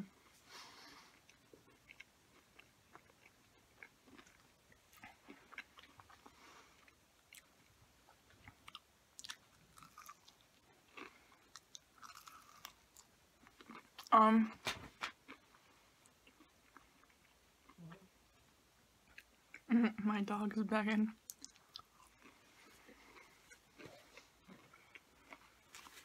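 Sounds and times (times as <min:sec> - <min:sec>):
chewing fried chicken: 0:01.1 - 0:14.2, 0:15.1 - 0:18.4, 0:21.2 - 0:26.0.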